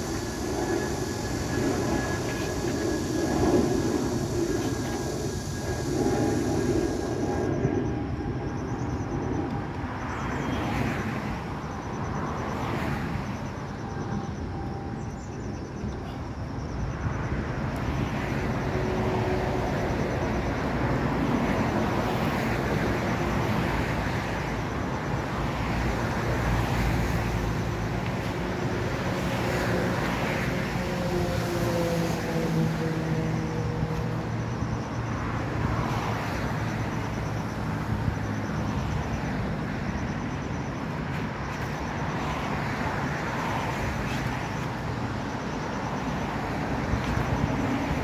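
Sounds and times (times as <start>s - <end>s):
vehicles passing: 0.0s - 48.0s.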